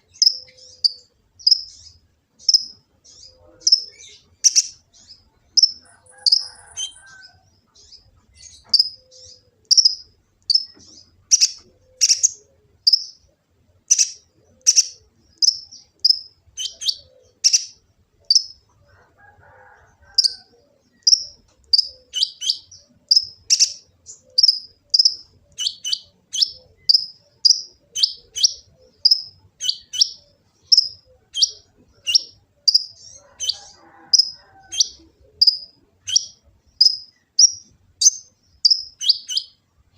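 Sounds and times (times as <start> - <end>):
sunbird high chirps: 0.0 - 18.7, 20.2 - 39.6.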